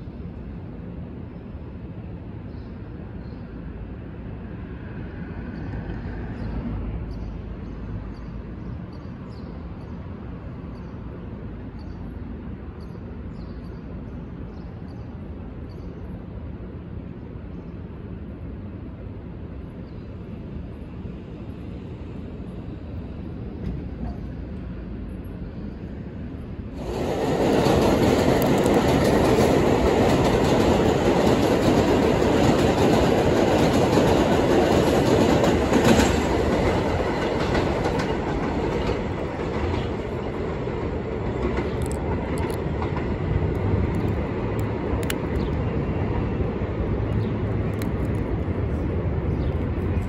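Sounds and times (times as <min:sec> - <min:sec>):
distant subway train approaching: 0:00.0 - 0:50.0
low city rumble: 0:00.0 - 0:50.0.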